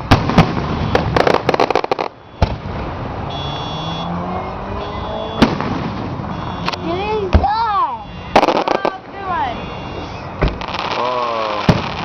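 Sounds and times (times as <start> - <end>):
fireworks crackling bangs: 0.0 - 3.2, 5.4 - 12.0.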